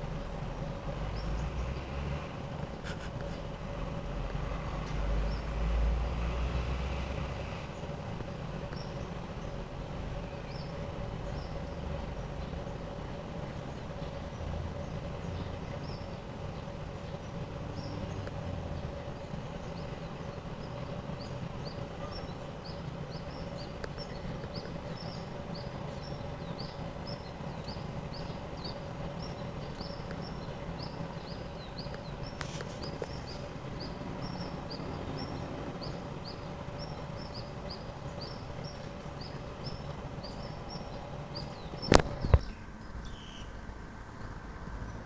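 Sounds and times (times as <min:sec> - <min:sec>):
distant jet engines rumbling: 0:00.0 - 0:45.0.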